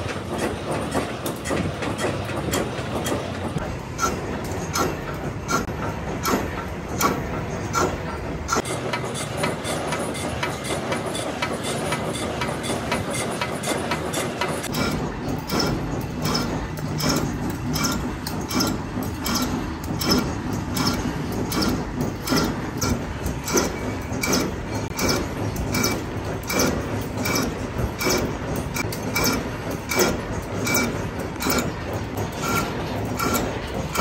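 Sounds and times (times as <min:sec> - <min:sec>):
low machine noise: 0:00.0 - 0:34.0.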